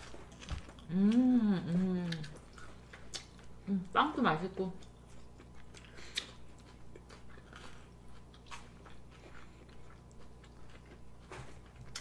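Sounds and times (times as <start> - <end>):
people chewing food: 0.0 - 4.0, 4.6 - 12.0.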